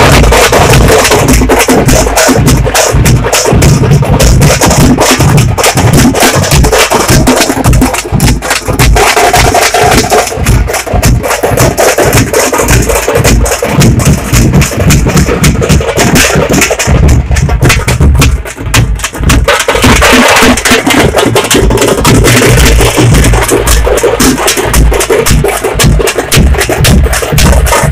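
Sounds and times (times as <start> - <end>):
frame drums beaten with sticks: 0.0 - 27.9.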